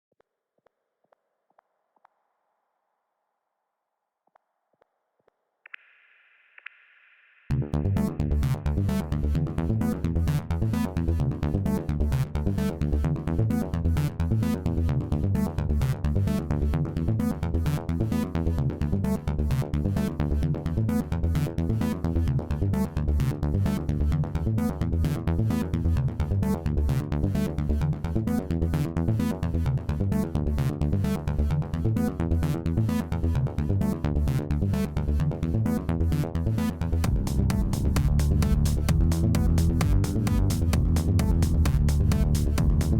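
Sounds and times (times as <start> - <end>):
electronic music with fast beat: 7.5 - 42.9.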